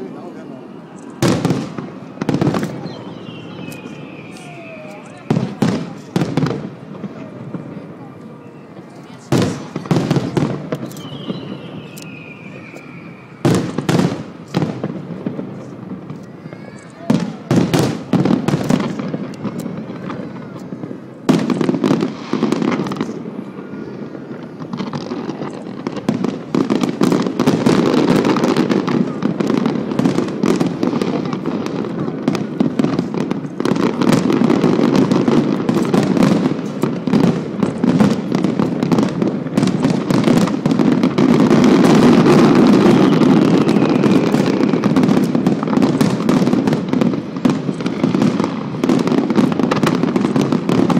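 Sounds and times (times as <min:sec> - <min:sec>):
firework bangs: 0:00.0 - 0:50.9
fireworks crackling: 0:00.0 - 0:50.9.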